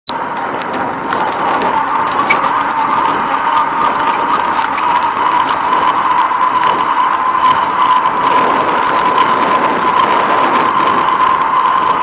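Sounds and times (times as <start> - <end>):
bicycle tyre and wind noise: 0.1 - 12.0.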